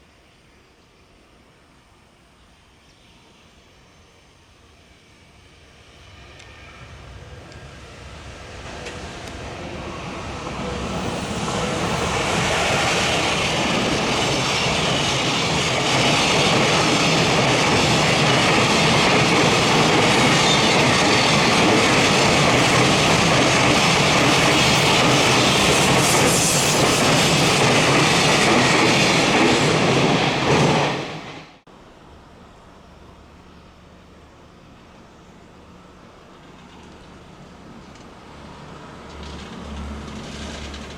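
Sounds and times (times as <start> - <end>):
train wheels rumbling on rails: 5.2 - 31.6, 34.0 - 40.9.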